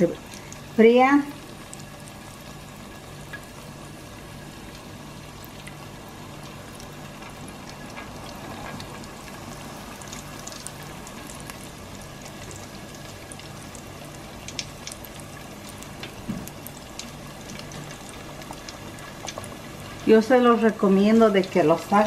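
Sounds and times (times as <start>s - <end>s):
slices sizzling in hot oil: 0.0s - 22.0s.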